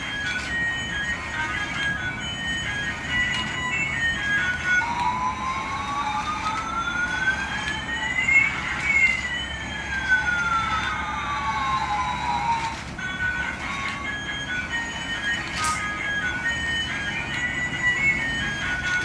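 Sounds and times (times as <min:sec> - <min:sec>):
beeping melody notes: 0:00.0 - 0:19.0
electronic siren wail: 0:00.0 - 0:19.0.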